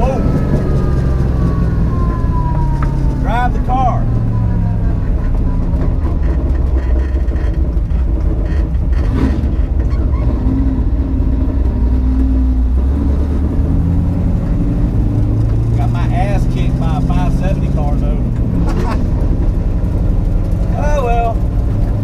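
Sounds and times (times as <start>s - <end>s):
car engine idling low rumble: 0.0s - 22.0s.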